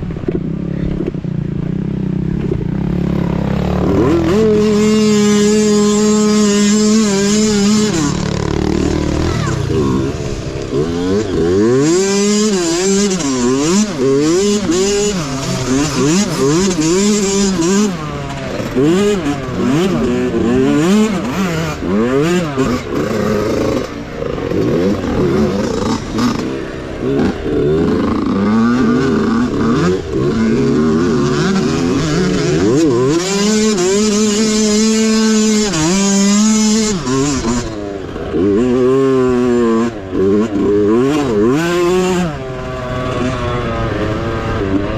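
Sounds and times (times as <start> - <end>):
mini bike engine revving: 0.0 - 44.9.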